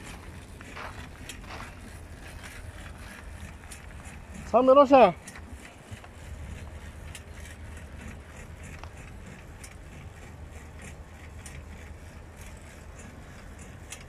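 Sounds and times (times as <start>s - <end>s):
gears clicking: 0.0s - 14.0s
motor hum: 0.0s - 14.0s.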